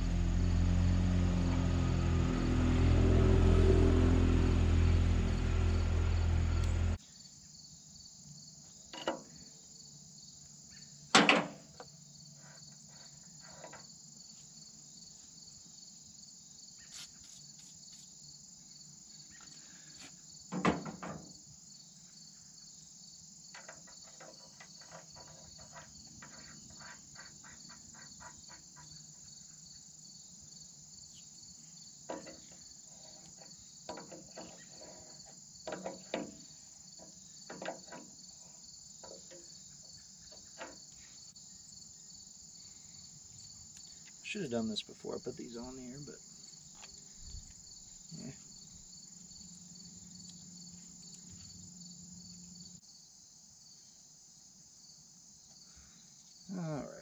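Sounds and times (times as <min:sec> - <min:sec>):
insects chirping drone: 0:00.0 - 0:57.0.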